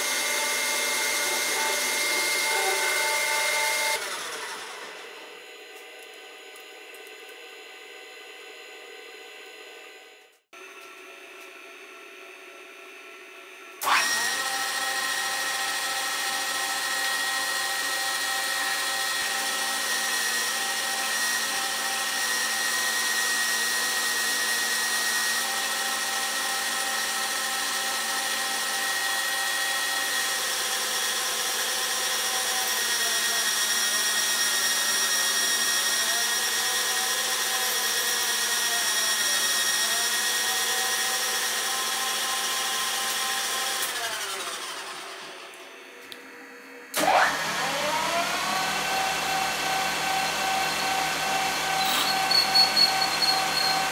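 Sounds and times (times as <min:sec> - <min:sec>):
drill boring into copper bar: 0:00.0 - 0:05.1, 0:13.8 - 0:45.5, 0:47.0 - 0:53.9
metal lathe running with whine: 0:00.0 - 0:10.2, 0:12.1 - 0:53.9.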